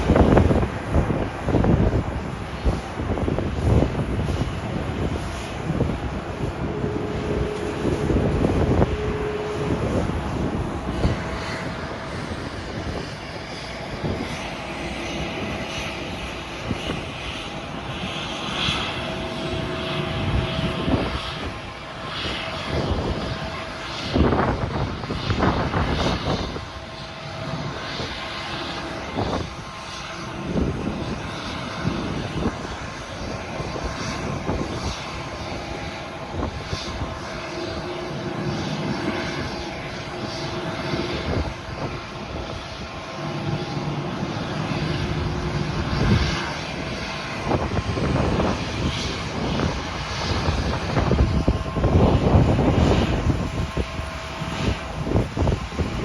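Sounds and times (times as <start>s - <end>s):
faint engine whine: 0.0s - 56.0s
jet engines rumbling: 0.0s - 56.0s.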